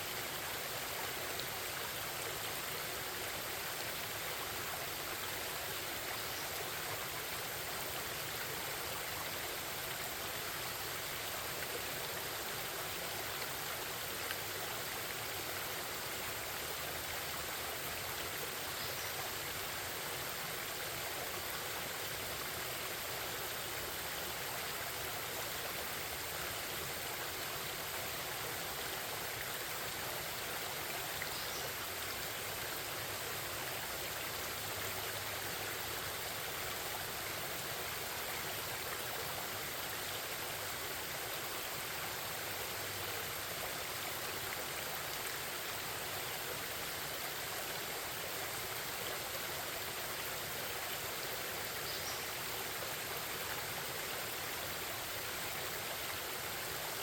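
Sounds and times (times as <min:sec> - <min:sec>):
babbling forest stream: 0:00.0 - 0:57.0.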